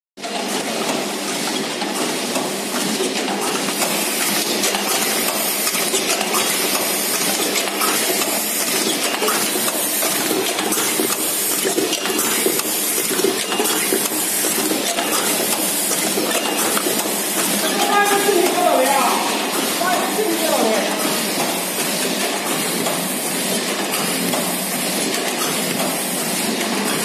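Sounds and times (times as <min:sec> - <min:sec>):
machine clattering: 0:00.2 - 0:27.0.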